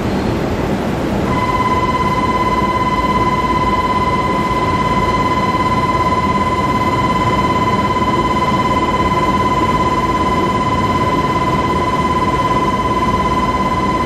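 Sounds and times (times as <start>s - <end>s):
rail-yard noise: 0.0s - 14.0s
high-pitched buzzer tone: 1.3s - 14.0s.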